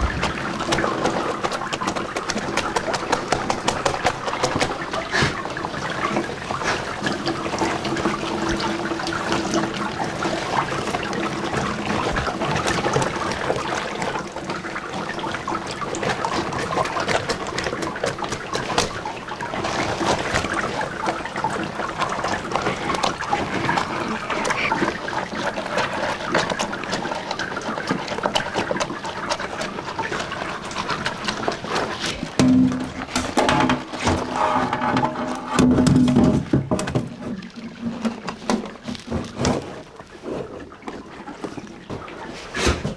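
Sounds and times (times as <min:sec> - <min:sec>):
liquid trickling and pouring: 0:00.0 - 0:42.9
small clicks and splashes: 0:00.0 - 0:42.9.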